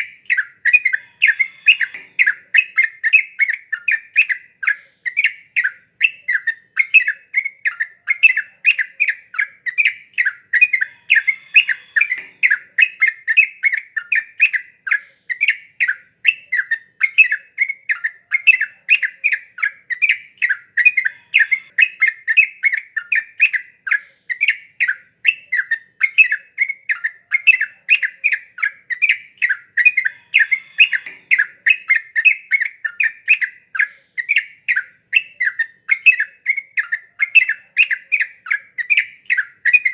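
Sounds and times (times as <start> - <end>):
bird chattering calls: 0.0 - 15.5, 20.8 - 39.9.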